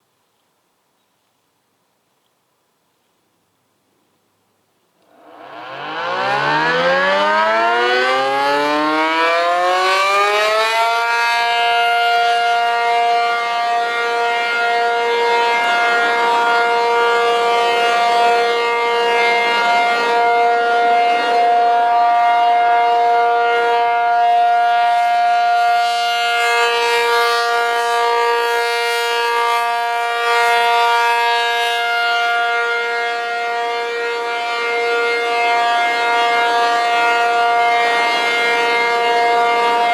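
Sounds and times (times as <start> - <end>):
dual-tone warning siren: 5.1 - 39.9.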